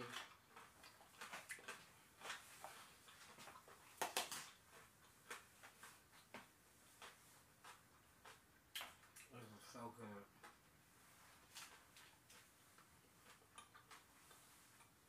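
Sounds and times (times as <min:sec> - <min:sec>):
crunchy chewing: 0:00.0 - 0:09.4, 0:11.4 - 0:15.0.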